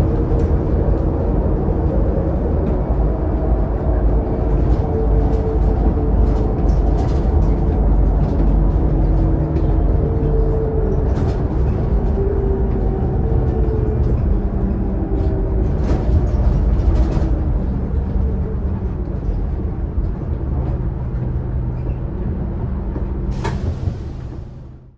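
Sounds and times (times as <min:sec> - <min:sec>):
bus engine rumble: 0:00.0 - 0:24.9.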